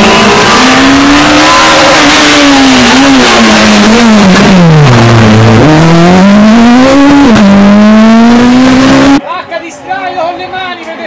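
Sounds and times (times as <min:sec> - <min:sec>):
rally car engine revving: 0:00.0 - 0:09.2.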